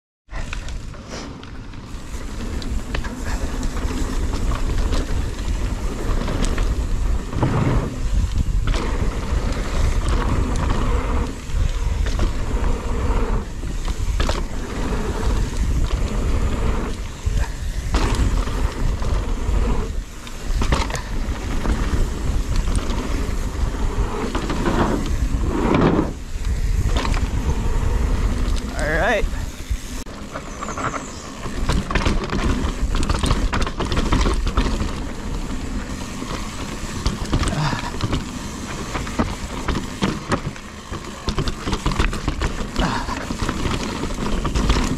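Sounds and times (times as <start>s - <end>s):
bike knocking and rattling: 0.3s - 44.9s
tyre and wind rumble: 0.3s - 44.9s.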